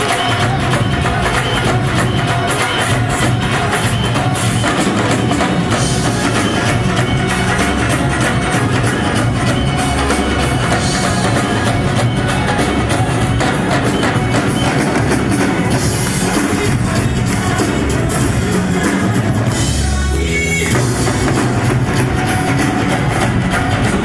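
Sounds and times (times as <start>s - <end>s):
dhol drums beating: 0.0s - 24.0s
drum kit: 0.0s - 24.0s
live band music: 0.0s - 24.0s.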